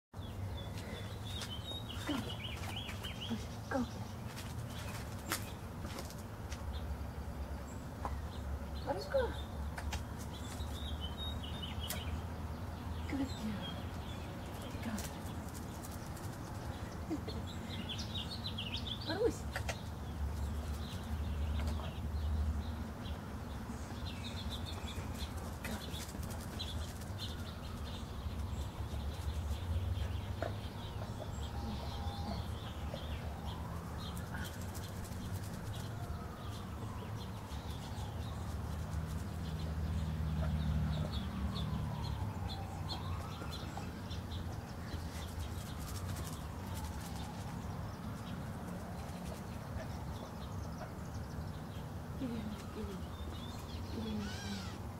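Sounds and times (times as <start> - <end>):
small birds chirping: 0.2 - 54.9.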